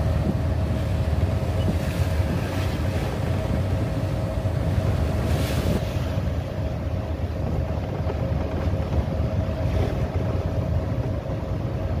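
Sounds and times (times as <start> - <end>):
boat engine drone: 0.0 - 12.0
waves rushing: 0.0 - 12.0
wind buffeting microphone: 0.0 - 12.0.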